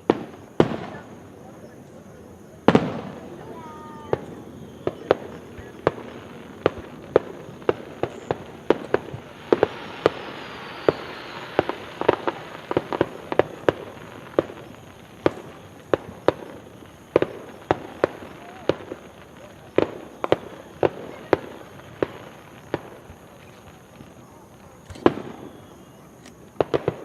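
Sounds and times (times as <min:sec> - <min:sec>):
fireworks bangs: 0:00.0 - 0:27.0
hissing crackle: 0:00.0 - 0:27.0.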